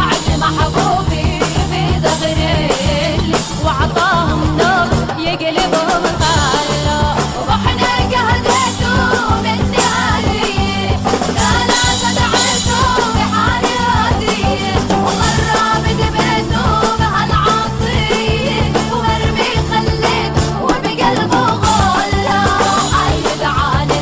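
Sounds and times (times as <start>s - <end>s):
band accompaniment with steady beat: 0.0s - 24.0s
person singing: 0.0s - 24.0s.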